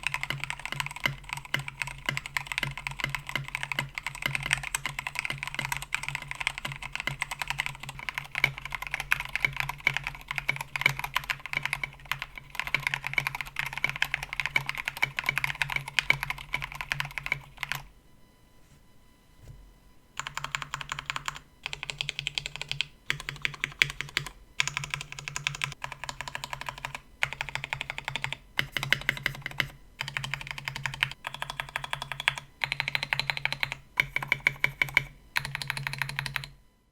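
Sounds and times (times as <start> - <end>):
typing on mechanical keyboard: 0.0 - 17.8, 20.2 - 36.5.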